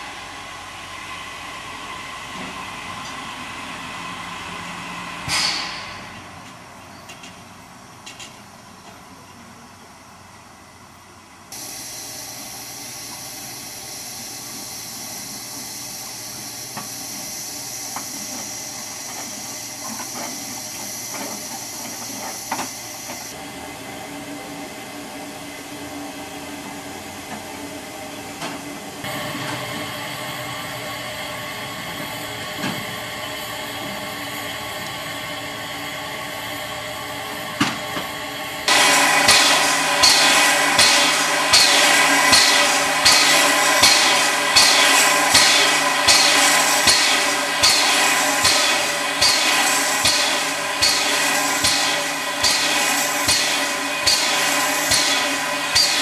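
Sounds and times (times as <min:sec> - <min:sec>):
steam locomotive hissing steam: 0:00.0 - 0:56.0.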